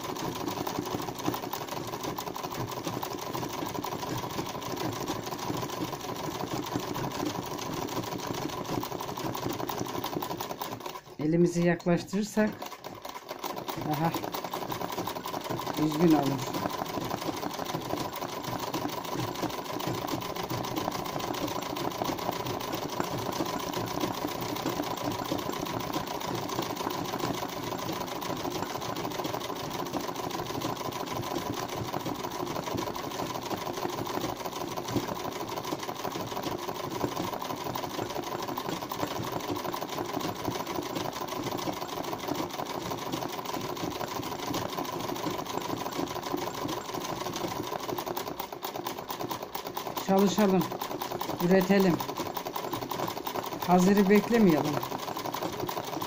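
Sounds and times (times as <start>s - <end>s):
sewing machine running: 0.0s - 56.0s.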